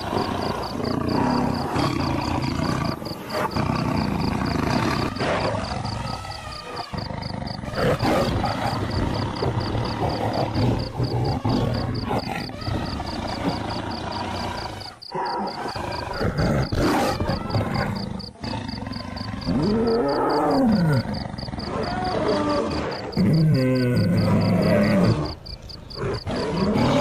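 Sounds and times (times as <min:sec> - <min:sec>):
lions roaring: 0:00.0 - 0:27.0.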